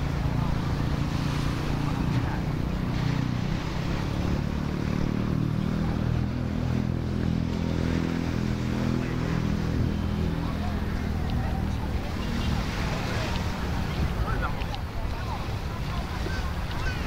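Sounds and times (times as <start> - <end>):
engine humming at low revs: 0.0 - 17.0.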